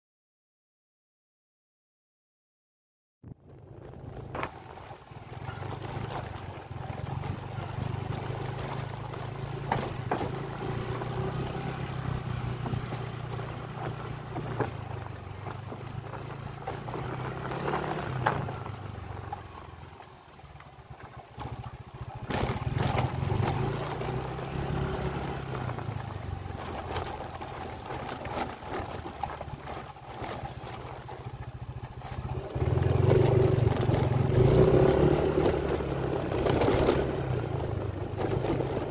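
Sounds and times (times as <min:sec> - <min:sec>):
small motorcycle engine running: 0:03.3 - 0:38.9.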